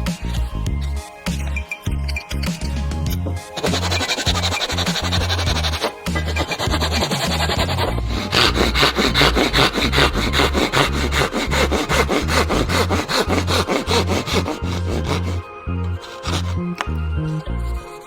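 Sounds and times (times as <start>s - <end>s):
saw cutting through wood: 0.0s - 17.0s
background music with bass line: 0.0s - 18.0s.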